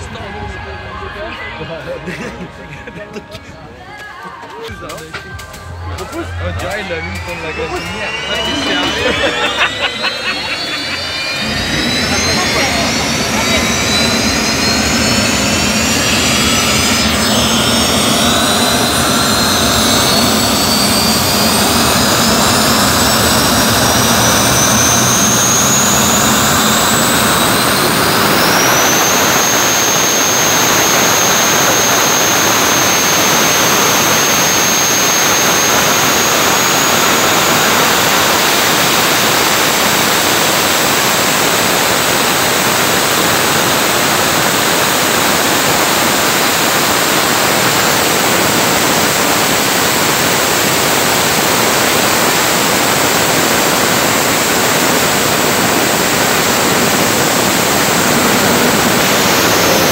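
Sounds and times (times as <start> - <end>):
jet engine whine spooling up: 0.0 - 3.7, 4.4 - 59.9
rushing roar of jet engine: 4.7 - 59.9.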